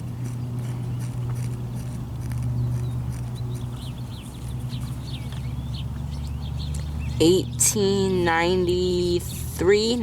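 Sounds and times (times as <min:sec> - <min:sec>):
small birds chirping: 0:00.0 - 0:09.5
steady low hum: 0:00.0 - 0:10.0.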